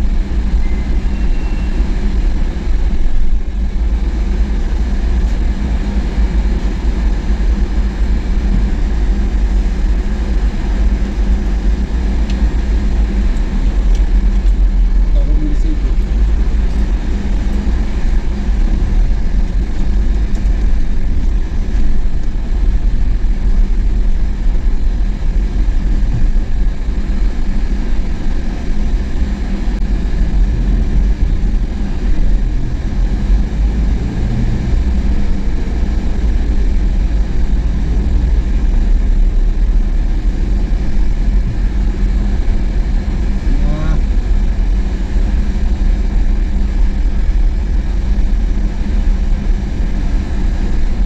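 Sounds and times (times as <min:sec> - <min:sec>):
road noise: 0:00.0 - 0:51.0
vehicle engine rumble: 0:00.0 - 0:51.0.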